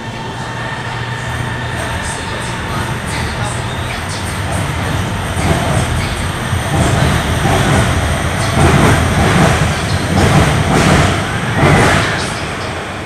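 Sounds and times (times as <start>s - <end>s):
train pulling out rumbling: 0.0s - 13.0s.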